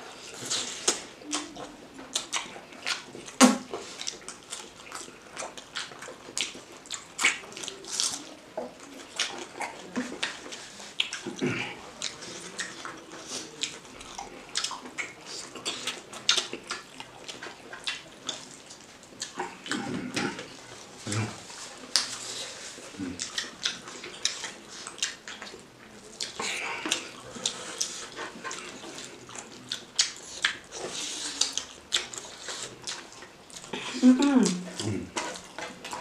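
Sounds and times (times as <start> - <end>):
chewing and lip smacks: 0.1 - 36.0.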